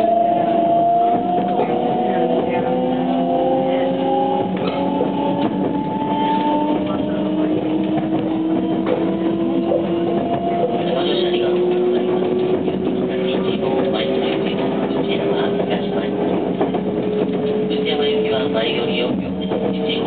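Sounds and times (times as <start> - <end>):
wheels rumbling on rail: 0.0 - 20.0.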